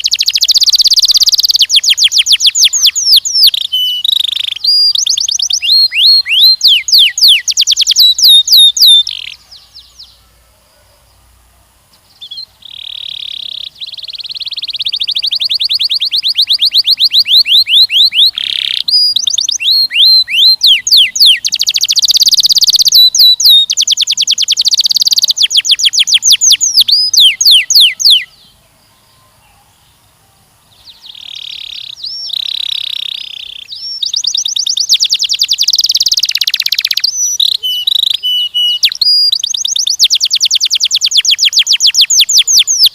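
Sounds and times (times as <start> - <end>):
canary singing trills: 0.0 - 11.4, 12.0 - 42.9.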